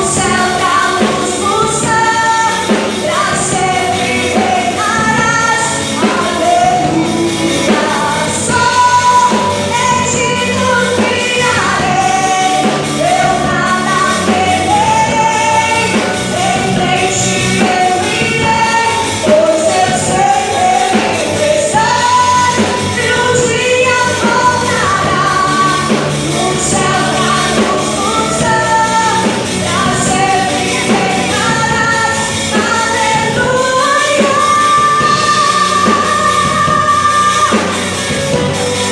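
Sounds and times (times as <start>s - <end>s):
band playing: 0.0s - 38.9s
woman singing gospel song: 0.0s - 38.9s.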